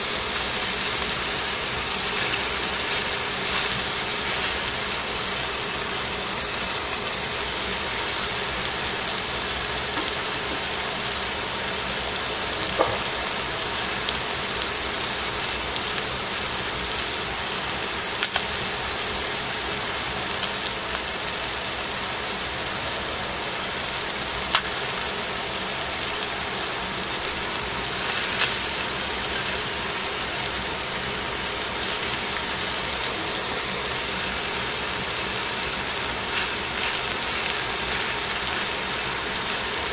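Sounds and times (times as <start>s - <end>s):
vegetables sizzling in a pan: 0.0s - 39.9s.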